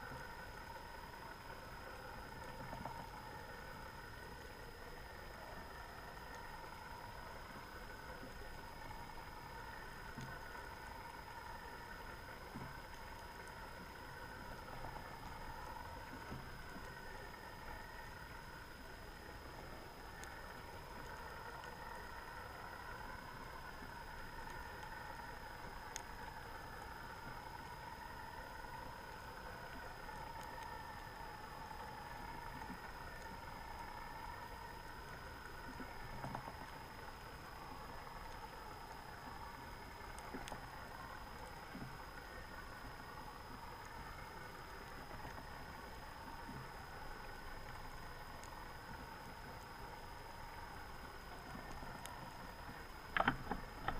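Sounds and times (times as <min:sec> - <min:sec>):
faint clicks: 0:00.0 - 0:53.9
faint high whine: 0:00.0 - 0:53.9
mechanical hum underwater: 0:00.0 - 0:53.9.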